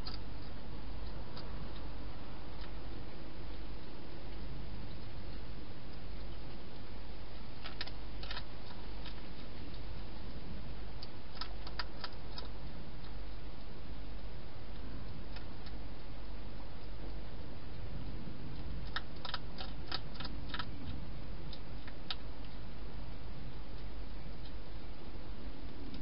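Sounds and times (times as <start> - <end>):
hedgehog crunching dry food: 0.0 - 24.7
low hum: 0.0 - 26.0
steady hiss: 0.0 - 26.0.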